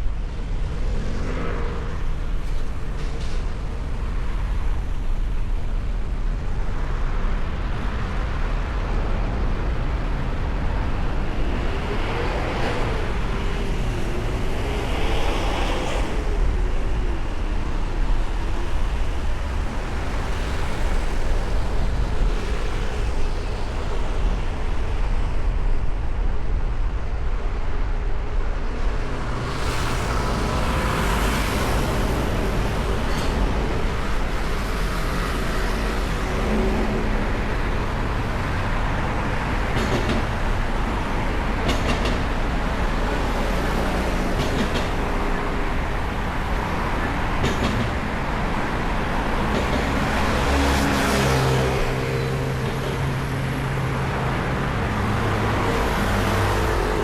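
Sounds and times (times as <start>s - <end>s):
traffic engines running: 0.0s - 57.0s
tyres on the road: 0.0s - 57.0s.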